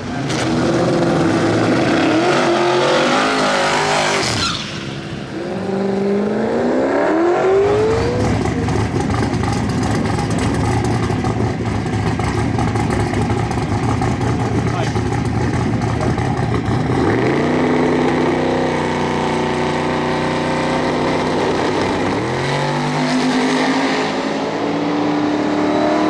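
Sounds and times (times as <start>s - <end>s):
racing car engine accelerating: 0.0s - 26.0s.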